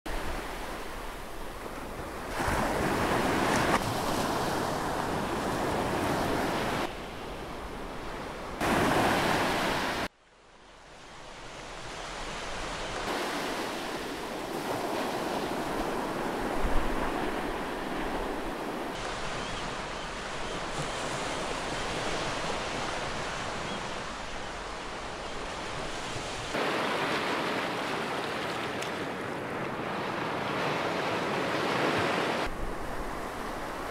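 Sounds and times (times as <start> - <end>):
ocean surf breaking: 0.1 - 10.1, 12.2 - 33.9.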